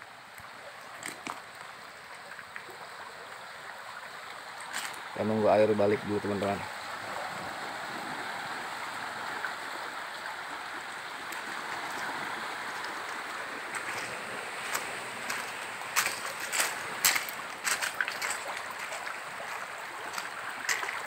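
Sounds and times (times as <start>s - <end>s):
water rippling over sand and stones: 0.0s - 21.0s.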